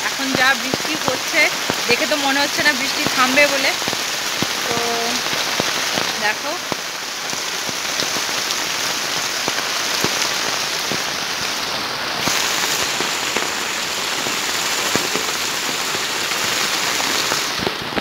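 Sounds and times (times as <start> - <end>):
heavy rain on plastic roof: 0.0 - 18.0.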